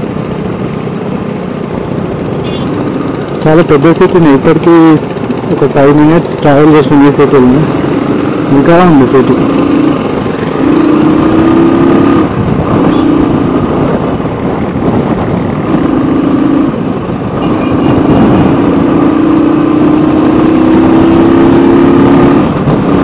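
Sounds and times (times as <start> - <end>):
heavy wind noise: 0.0 - 23.0
motorcycle engine running: 0.0 - 23.0
road noise: 0.0 - 23.0.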